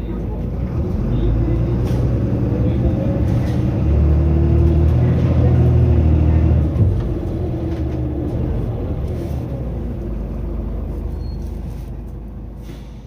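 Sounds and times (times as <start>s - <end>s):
bus diesel engine: 0.0s - 13.0s
road rumble: 0.0s - 13.0s.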